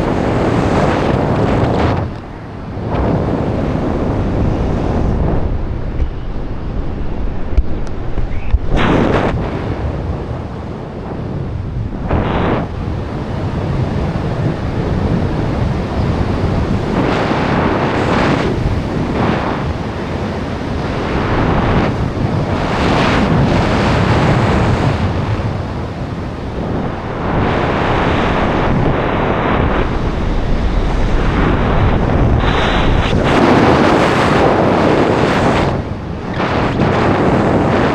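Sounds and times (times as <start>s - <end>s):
wind on microphone: 0.0s - 37.9s.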